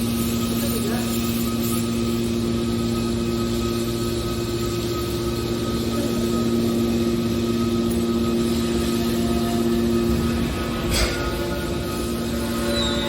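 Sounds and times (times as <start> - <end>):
hydraulic baler machine humming: 1.8 - 13.0.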